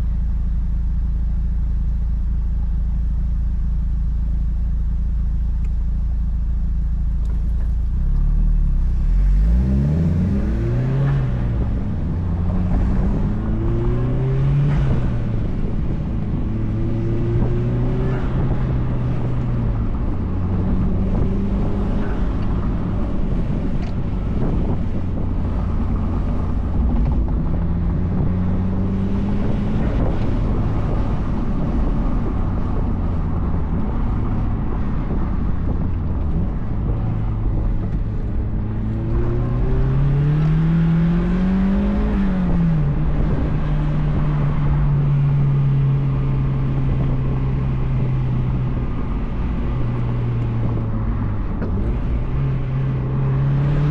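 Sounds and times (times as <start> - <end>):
car engine and exhaust while driving: 0.0 - 53.9.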